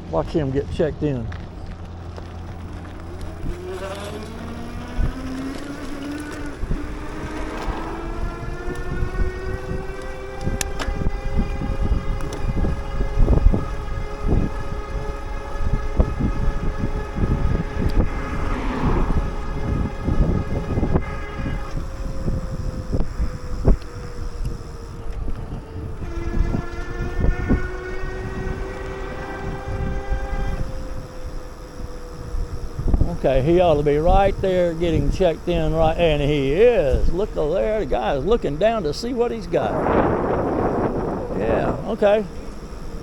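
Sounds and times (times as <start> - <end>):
mechanical whine: 0.0 - 43.0
wind buffeting microphone: 0.0 - 43.0.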